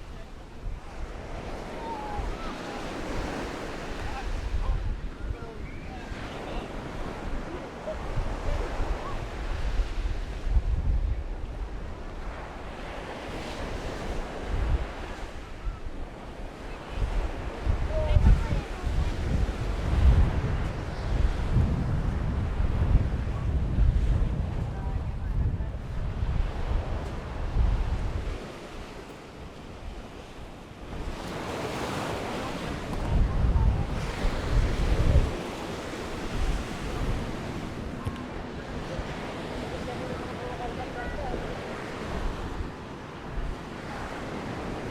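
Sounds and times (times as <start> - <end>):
sea waves washing onto beach: 0.0 - 44.9
wind buffeting microphone: 0.0 - 44.9.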